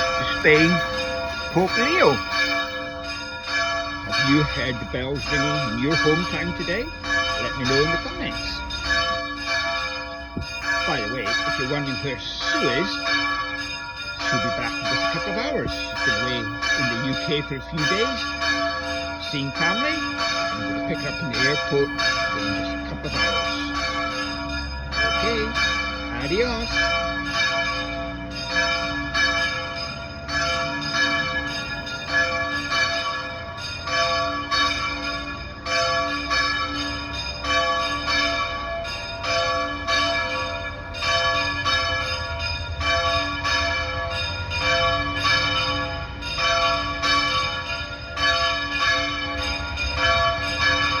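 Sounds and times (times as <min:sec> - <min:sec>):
church bells ringing: 0:00.0 - 0:51.0.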